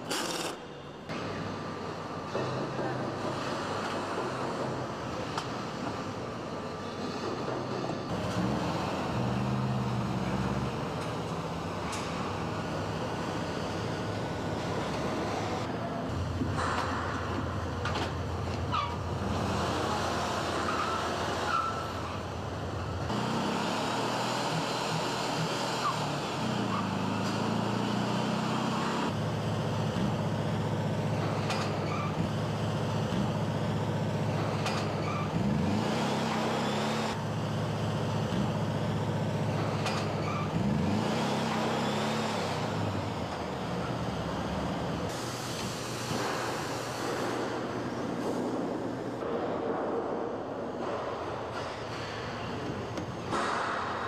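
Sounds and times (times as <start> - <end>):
factory noise: 0.0 - 54.0.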